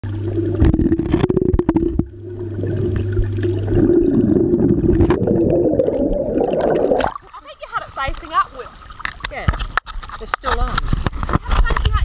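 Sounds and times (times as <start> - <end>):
water sloshing and gurgling: 0.0 - 12.0.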